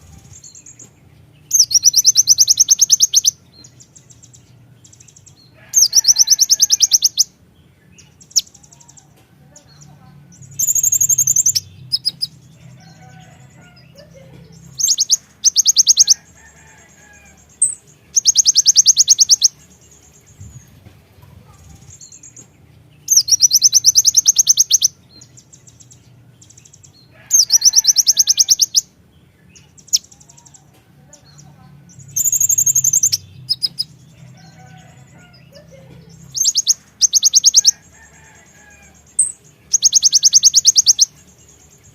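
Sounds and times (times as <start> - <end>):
bird singing high trills: 0.0 - 9.1, 10.4 - 20.8, 21.7 - 30.6, 31.9 - 41.9.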